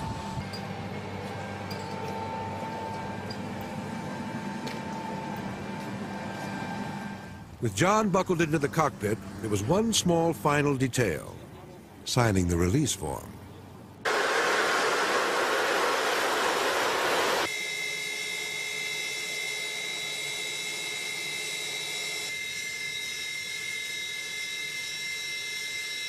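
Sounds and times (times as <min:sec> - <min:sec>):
jet engine roar: 0:00.0 - 0:10.8, 0:14.0 - 0:26.0
turbine whine: 0:00.0 - 0:11.5, 0:13.8 - 0:26.0.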